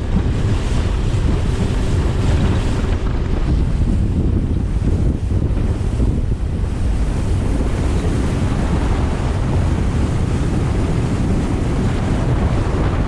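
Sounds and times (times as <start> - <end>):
water rushing past hull: 0.0 - 13.0
wind buffeting microphone: 0.0 - 13.0.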